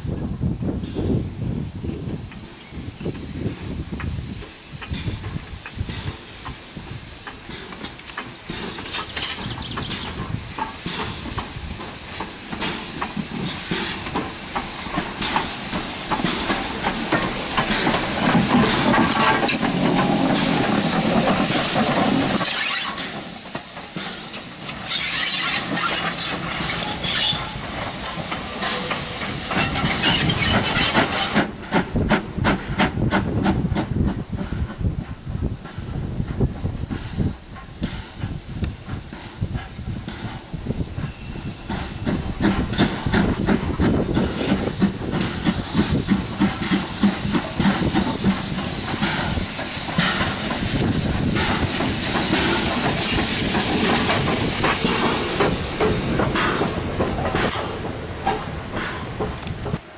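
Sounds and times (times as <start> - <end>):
locomotive steam hissing: 0.4 - 59.9.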